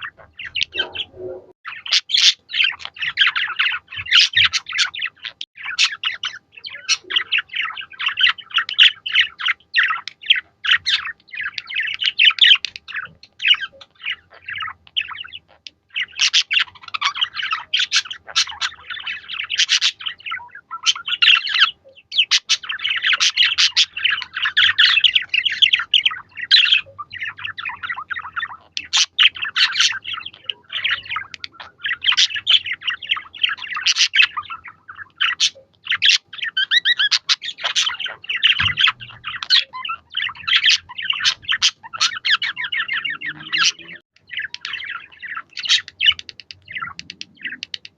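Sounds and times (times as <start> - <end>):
budgerigars chattering and warbling: 0.0 - 47.9.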